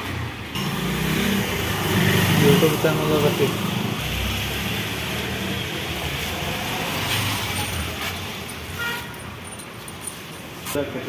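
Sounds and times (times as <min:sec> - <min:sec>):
passing traffic: 0:00.0 - 0:11.0.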